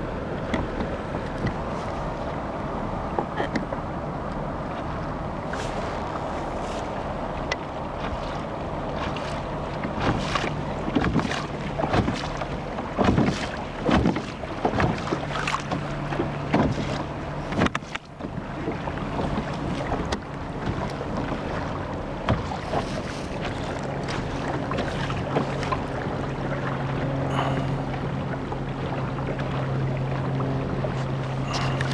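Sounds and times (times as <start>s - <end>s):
water splashing against hull: 0.0s - 31.9s.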